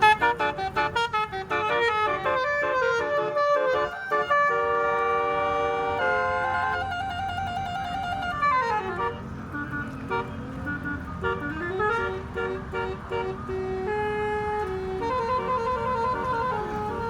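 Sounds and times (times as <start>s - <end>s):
bus multi-tone horn tune: 0.0s - 17.0s
low engine rumble: 0.0s - 17.0s.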